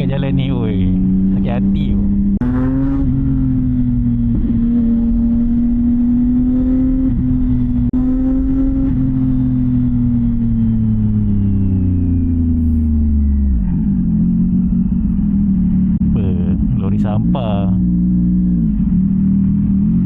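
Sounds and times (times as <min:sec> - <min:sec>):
motorcycle engine at steady revs: 0:00.0 - 0:20.0.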